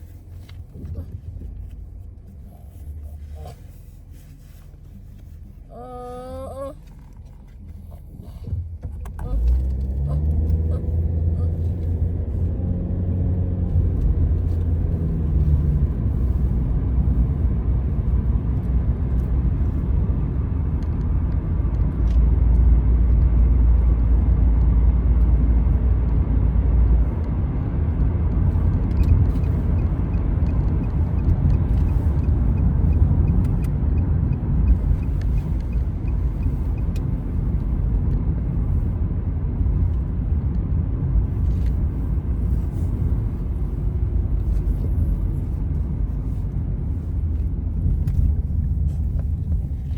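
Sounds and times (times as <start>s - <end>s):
motor vehicle rumbling: 0.0s - 49.9s.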